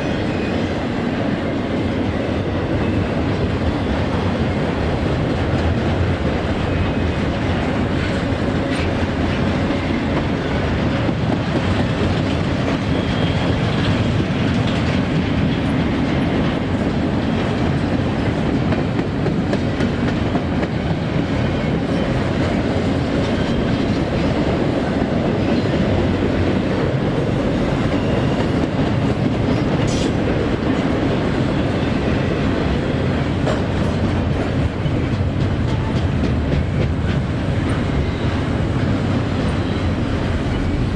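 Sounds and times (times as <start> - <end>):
clickety-clack over rail joints: 0.0 - 40.9
train wheels rumbling on rails: 0.0 - 40.9.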